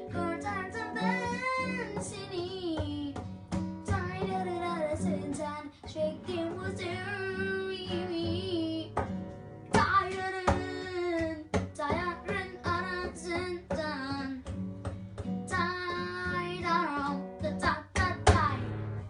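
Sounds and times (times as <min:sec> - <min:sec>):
boy singing: 0:00.0 - 0:03.2, 0:03.9 - 0:09.0, 0:09.7 - 0:14.5, 0:15.5 - 0:18.7
classical guitar strumming: 0:00.0 - 0:19.0.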